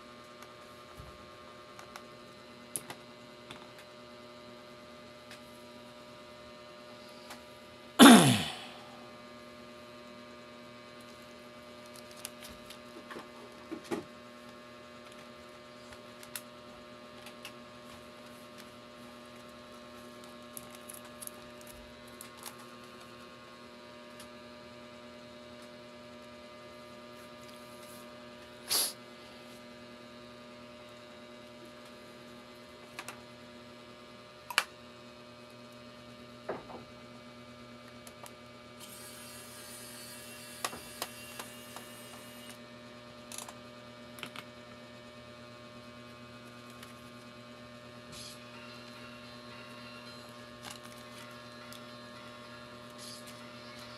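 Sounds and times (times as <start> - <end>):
steady electrical hum: 0.0 - 53.9.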